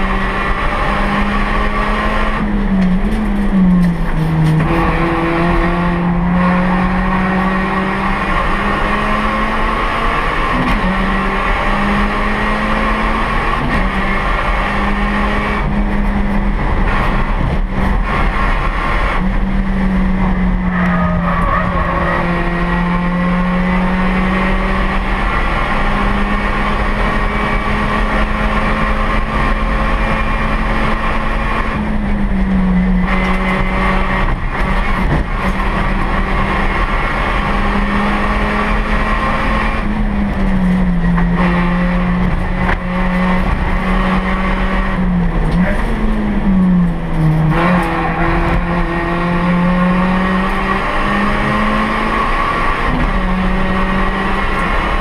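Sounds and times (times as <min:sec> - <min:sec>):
race car engine from inside cabin: 0:00.0 - 0:55.0.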